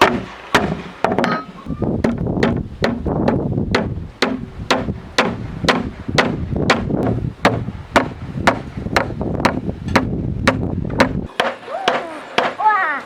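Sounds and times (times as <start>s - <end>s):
tool striking wood: 0.0s - 12.6s.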